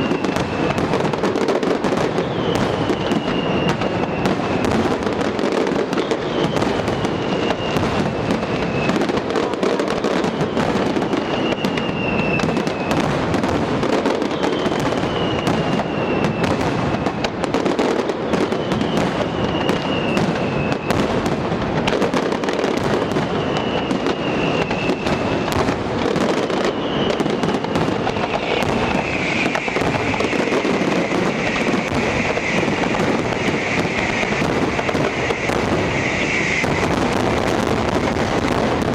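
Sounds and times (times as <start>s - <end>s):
falling firework whistle: 0.0s - 38.9s
fireworks bangs and crackling: 0.0s - 38.9s
fireworks hissing: 0.0s - 38.9s.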